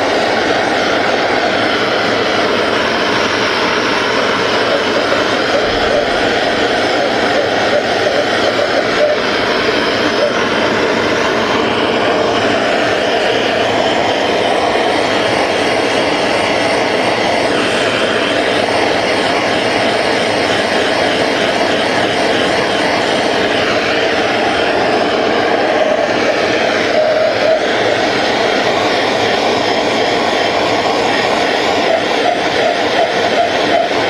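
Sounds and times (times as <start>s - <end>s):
gas torch hissing: 0.0s - 34.0s.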